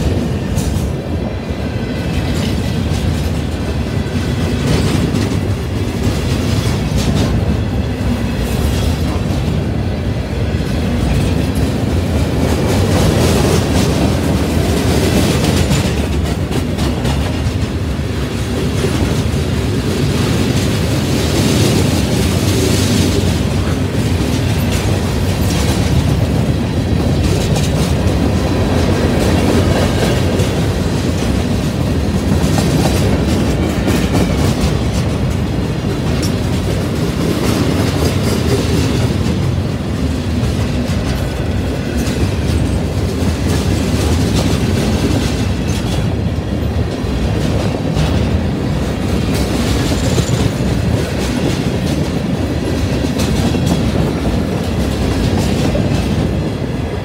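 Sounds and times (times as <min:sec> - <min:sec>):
freight train rumble: 0:00.0 - 0:57.0
steel wheels clattering on rails: 0:00.0 - 0:57.0.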